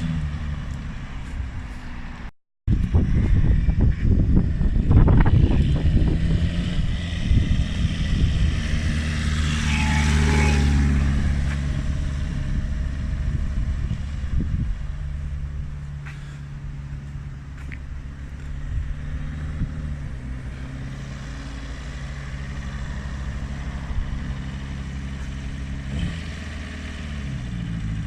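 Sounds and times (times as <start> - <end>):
car engine revving: 4.4 - 28.0.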